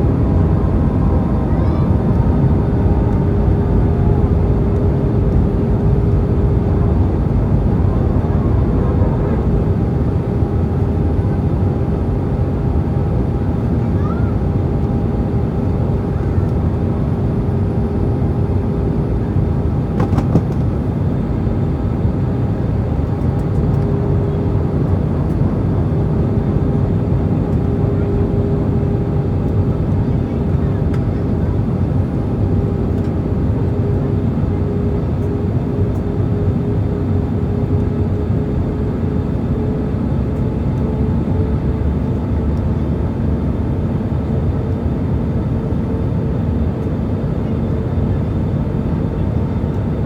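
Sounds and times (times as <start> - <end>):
airplane cabin engine noise: 0.0 - 50.0.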